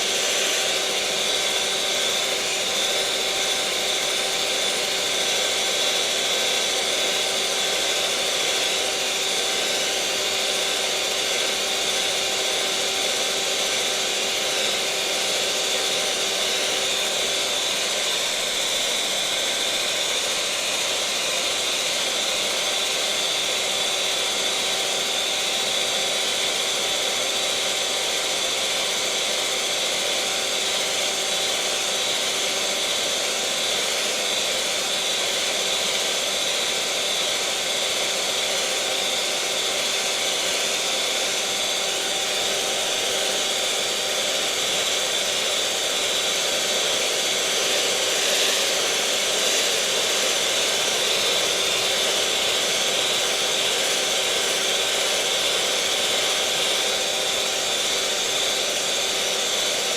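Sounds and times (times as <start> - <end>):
electric mixer motor whirring: 0.0 - 59.9.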